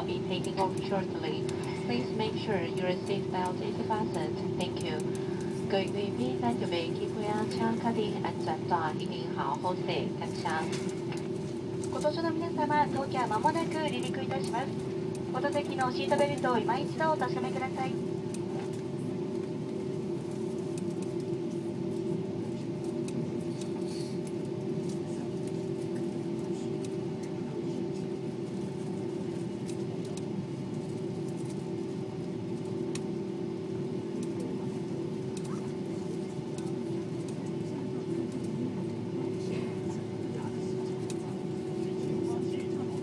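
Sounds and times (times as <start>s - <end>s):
jet engine cabin hum: 0.0s - 43.0s.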